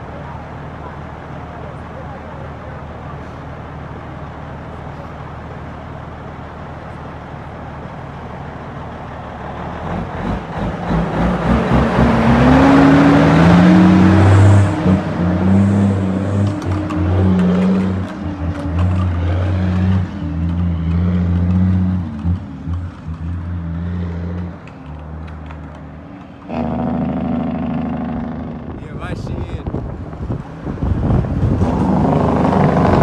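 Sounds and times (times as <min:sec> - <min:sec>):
dump truck diesel engine passing: 0:00.0 - 0:33.0.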